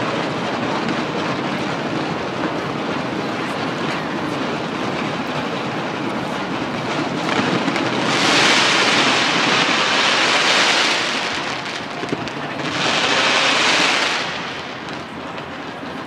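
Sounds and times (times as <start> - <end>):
fireworks crackling and hissing: 0.0 - 16.0.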